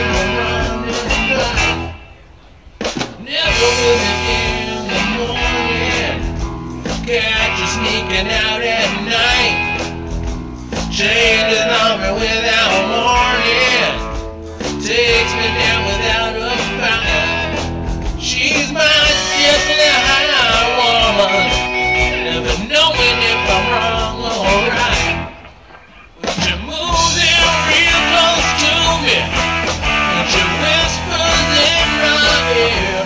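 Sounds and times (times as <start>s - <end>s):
bass guitar: 0.0s - 2.2s, 2.9s - 33.0s
drum kit: 0.0s - 33.0s
electric guitars: 0.0s - 33.0s.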